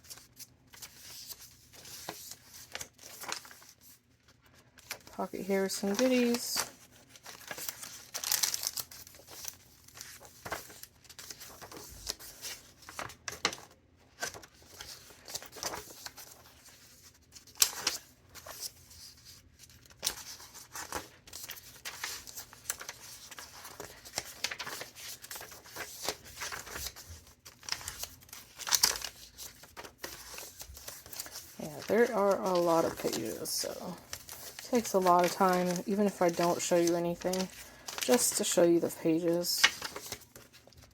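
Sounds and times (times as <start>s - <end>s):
paper pages turning: 0.0s - 40.9s.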